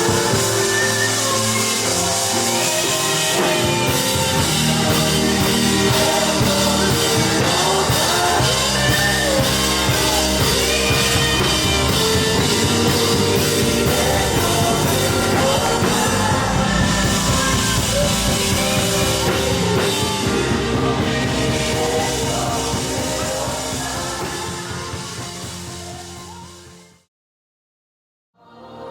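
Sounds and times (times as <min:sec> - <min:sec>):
people singing: 0:00.0 - 0:26.7, 0:28.4 - 0:28.9
worship band with drums: 0:00.0 - 0:26.9.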